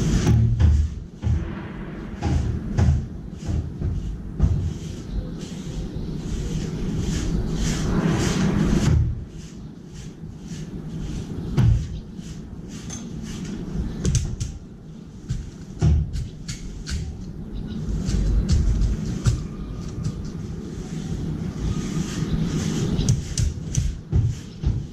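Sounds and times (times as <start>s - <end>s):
steady rushing noise: 0.0s - 24.9s.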